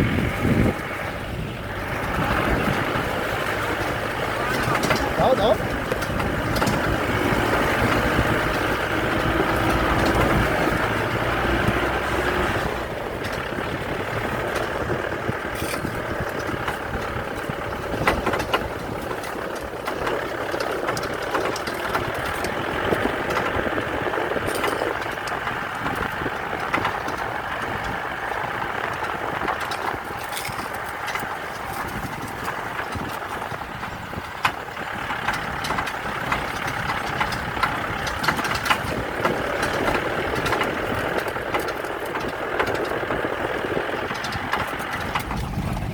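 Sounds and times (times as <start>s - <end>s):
scattered clicks and knocks: 0.0s - 45.9s
vehicle engine running: 0.0s - 45.9s.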